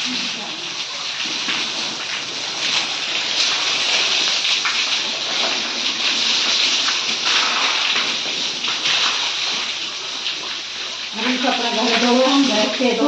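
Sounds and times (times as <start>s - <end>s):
hose water spraying on concrete: 0.0s - 13.0s.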